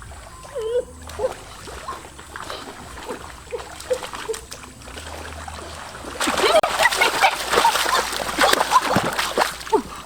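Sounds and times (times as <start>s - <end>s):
water splashing: 0.0s - 10.0s
water trickling and dripping: 0.0s - 10.0s.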